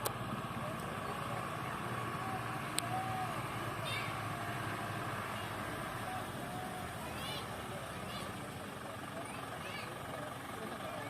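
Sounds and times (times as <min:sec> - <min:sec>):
truck engines and traffic rumble: 0:00.0 - 0:11.0.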